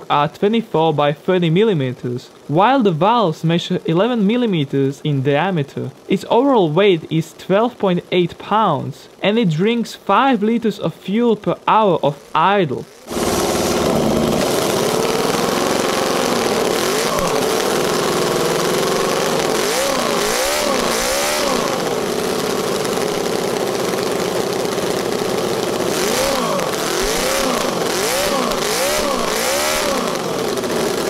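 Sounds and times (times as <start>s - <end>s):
model engine revving: 3.8s - 31.0s.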